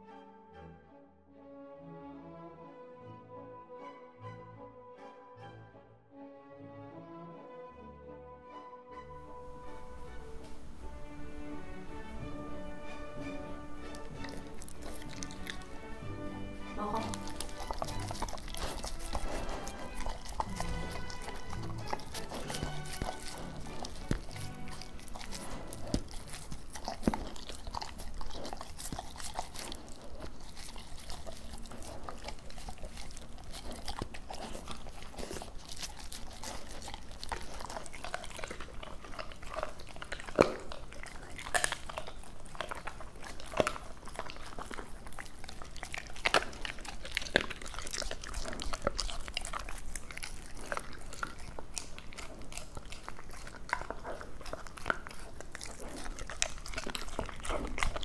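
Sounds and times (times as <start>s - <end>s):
dog chewing and crunching: 9.2s - 58.0s.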